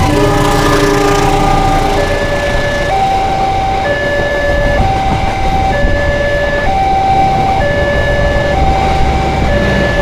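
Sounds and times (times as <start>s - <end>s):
train passing rumble: 0.0s - 10.0s
level crossing alarm two-tone: 0.4s - 10.0s.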